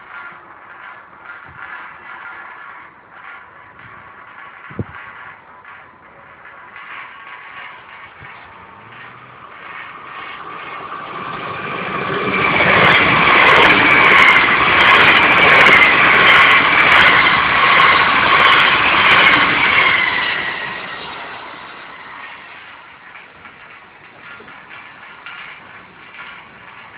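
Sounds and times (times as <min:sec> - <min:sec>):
train rushing rumble: 0:00.0 - 0:26.9
train wheels whining: 0:00.0 - 0:26.9.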